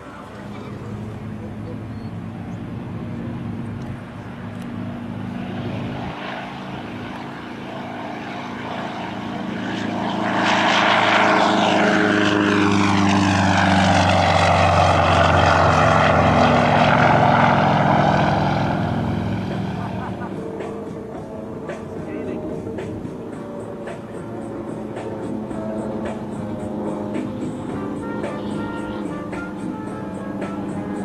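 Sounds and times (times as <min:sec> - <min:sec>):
propeller plane engine: 0:00.0 - 0:31.0.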